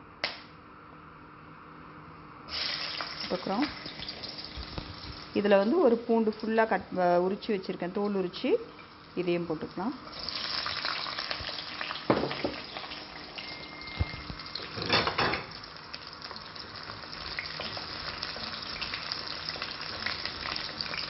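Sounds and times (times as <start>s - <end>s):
garlic and ginger sizzling in oil: 2.5s - 21.0s.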